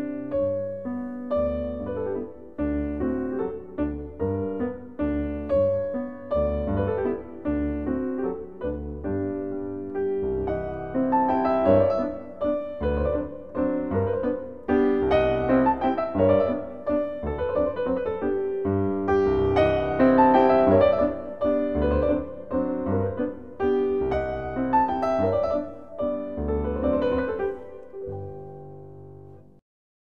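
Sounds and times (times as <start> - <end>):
piano music: 0.0 - 29.6.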